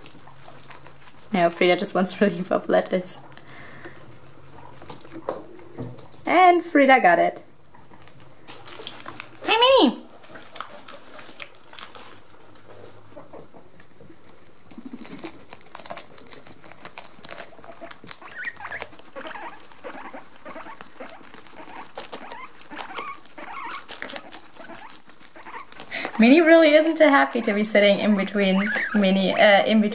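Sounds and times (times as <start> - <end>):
guinea pigs crunching lettuce: 0.0 - 29.9.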